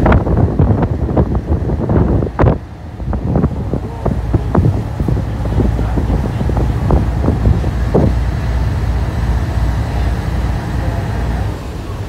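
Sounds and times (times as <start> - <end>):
boat engine low rumble: 0.0 - 12.0
wind buffeting microphone: 0.0 - 12.0.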